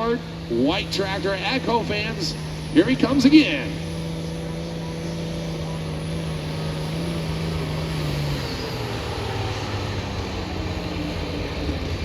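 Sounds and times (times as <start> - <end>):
tractor engine running under load: 0.0 - 12.0.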